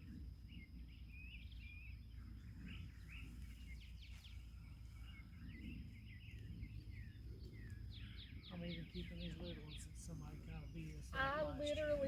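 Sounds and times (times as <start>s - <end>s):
faint low rumble: 0.0s - 12.0s
rustles: 0.0s - 12.0s
songbirds chirping: 0.0s - 12.0s.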